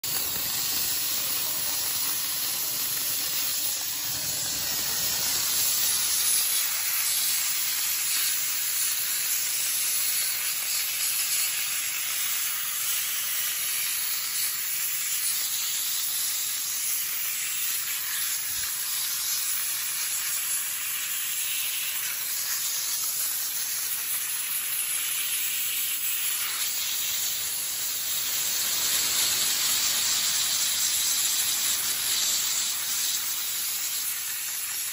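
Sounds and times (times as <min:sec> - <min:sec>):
dry ice blast nozzle hissing: 0:00.0 - 0:34.9.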